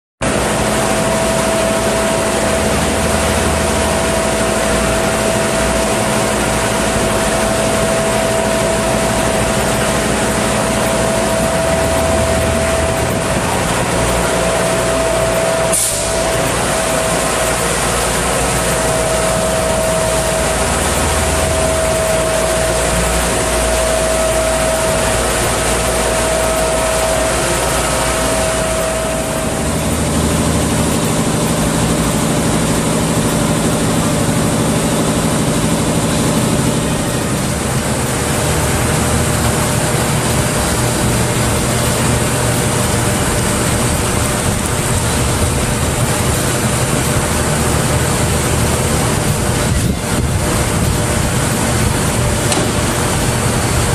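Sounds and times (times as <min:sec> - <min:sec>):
blast machine running: 0:00.2 - 0:53.9
steady machine whine: 0:00.2 - 0:53.9.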